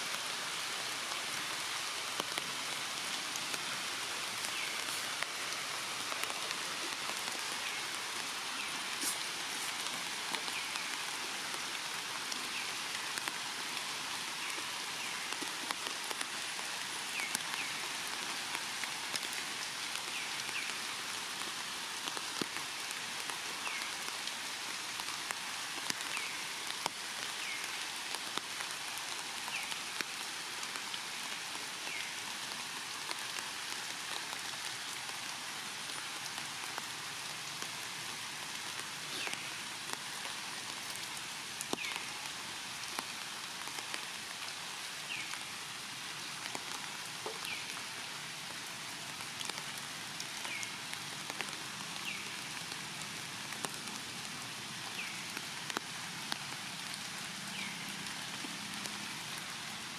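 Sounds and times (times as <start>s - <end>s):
rain falling in trees: 0.0s - 59.9s.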